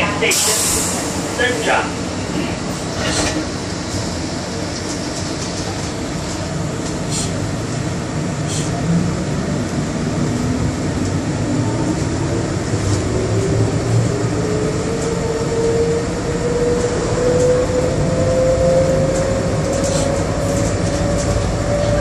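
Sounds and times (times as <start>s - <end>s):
train rumbling on rubber tyres: 0.9s - 22.0s.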